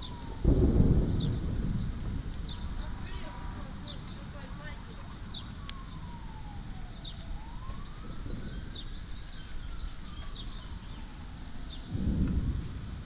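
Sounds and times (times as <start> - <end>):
birds chirping: 0.0 - 12.2
siren wailing: 0.0 - 13.0.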